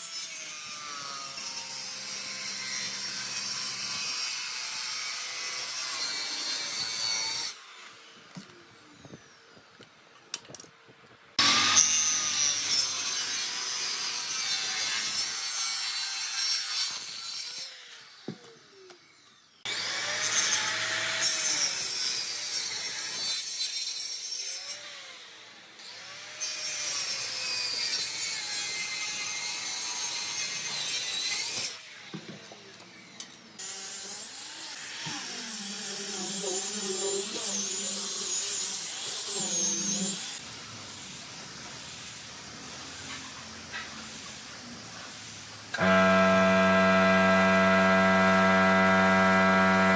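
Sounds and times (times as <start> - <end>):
power tools cutting wood: 0.0 - 9.6, 11.4 - 32.0, 33.6 - 49.9.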